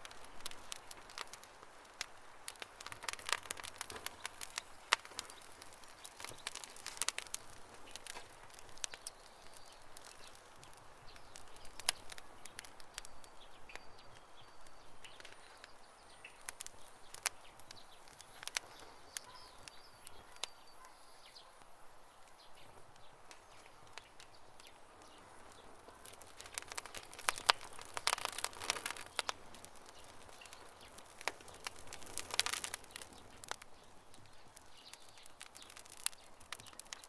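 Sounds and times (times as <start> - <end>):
campfire crackling and popping: 0.0 - 37.0
soft steady hiss: 0.0 - 37.0.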